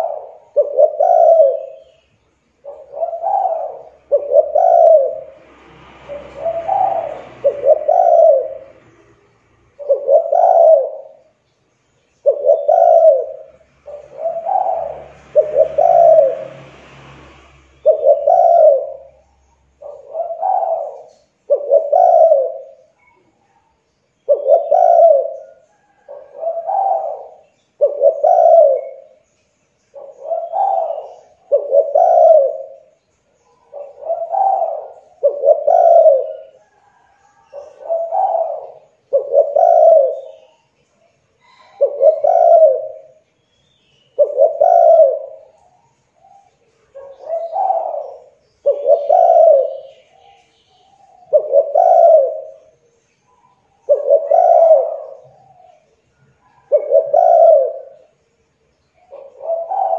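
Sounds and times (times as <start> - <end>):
dove cooing: 0.0 - 11.4, 12.1 - 16.7, 17.8 - 43.3, 44.1 - 58.3, 59.0 - 59.9.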